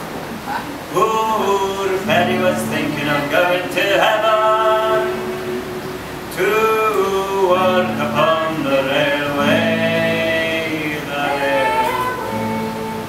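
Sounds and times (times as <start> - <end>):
man and woman singing folk song: 0.8 - 13.0
acoustic guitar strumming: 1.0 - 13.0.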